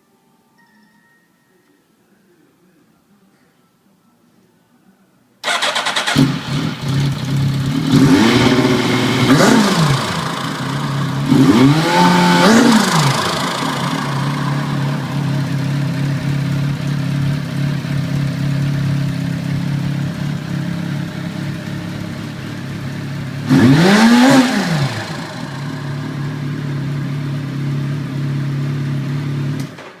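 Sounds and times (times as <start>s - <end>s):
motorcycle engine idling: 5.5s - 29.6s.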